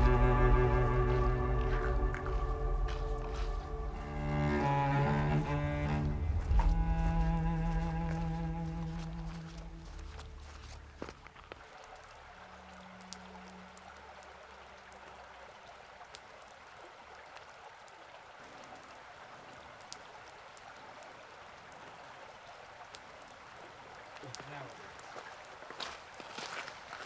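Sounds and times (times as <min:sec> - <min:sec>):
creek water trickling: 0:00.0 - 0:27.0.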